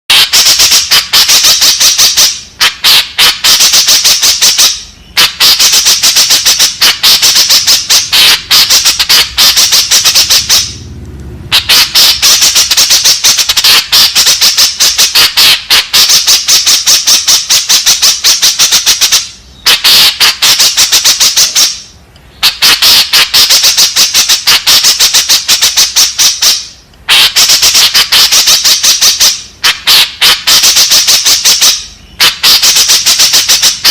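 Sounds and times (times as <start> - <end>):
bird rapid sharp calls: 0.1 - 10.9, 11.5 - 33.9.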